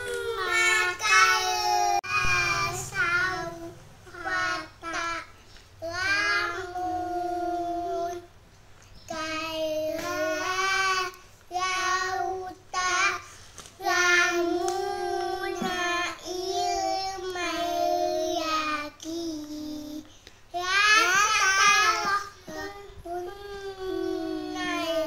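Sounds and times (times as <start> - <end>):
boys chanting in sing-song voice: 0.0 - 8.4, 9.0 - 20.0, 20.6 - 25.0.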